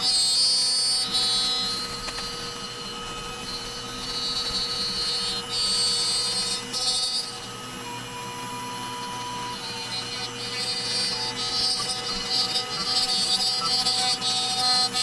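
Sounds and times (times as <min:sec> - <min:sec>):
router spindle whine: 0:00.0 - 0:15.0
higher machine motion whine: 0:01.1 - 0:15.0.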